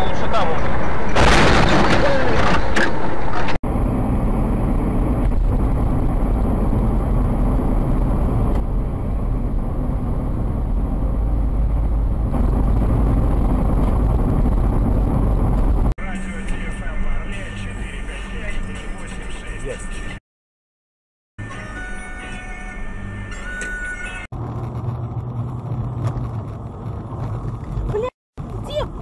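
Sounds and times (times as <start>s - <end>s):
car engine rumble: 0.0s - 20.2s, 23.1s - 29.0s
road noise: 0.0s - 20.2s, 21.4s - 29.0s.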